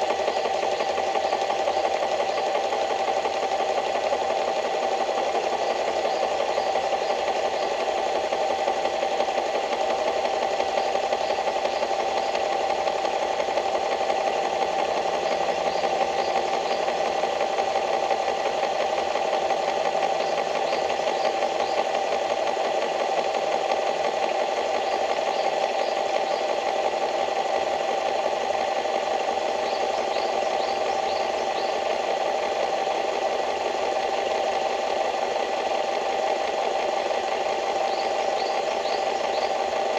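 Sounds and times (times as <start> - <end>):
small engine running with rattle: 0.0 - 39.9.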